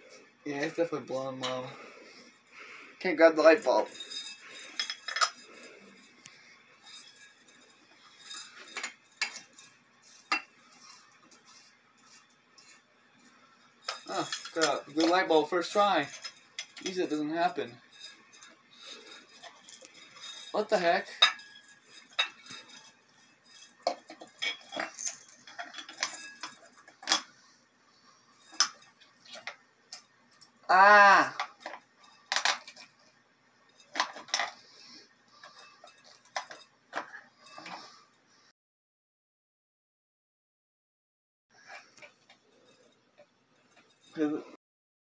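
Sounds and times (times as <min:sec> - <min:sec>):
glass and metal clinking: 0:00.5 - 0:02.3, 0:03.4 - 0:27.5, 0:28.2 - 0:30.6, 0:31.4 - 0:38.0, 0:41.6 - 0:44.5.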